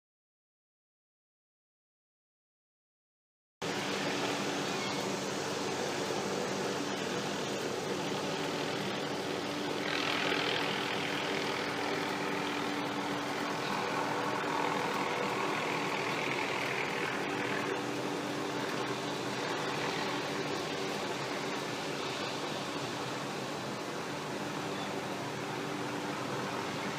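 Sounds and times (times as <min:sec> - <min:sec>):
helicopter engine and rotor drone: 0:03.6 - 0:26.9.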